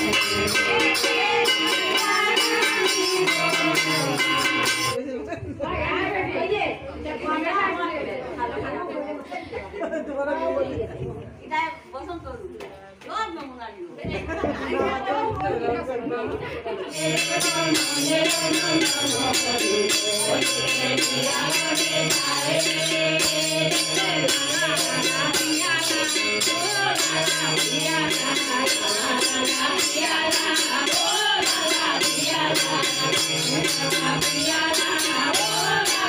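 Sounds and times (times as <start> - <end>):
women singing together: 0.0 - 9.6, 14.0 - 36.0.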